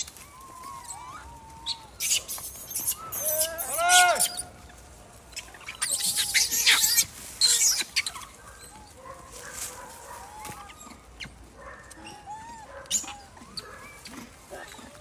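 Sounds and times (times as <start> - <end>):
macaques screeching and calling: 0.0 - 9.0, 10.1 - 15.0.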